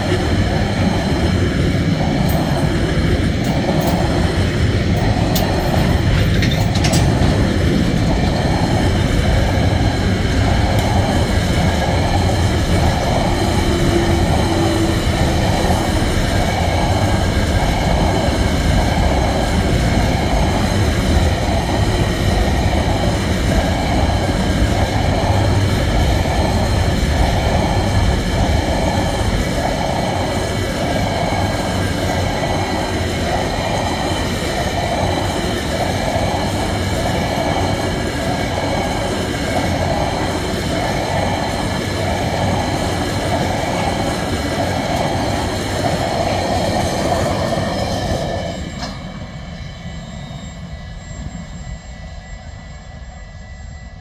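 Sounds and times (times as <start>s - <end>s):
freight train wheels rumbling: 0.0s - 52.0s
faint high whine: 8.0s - 54.0s.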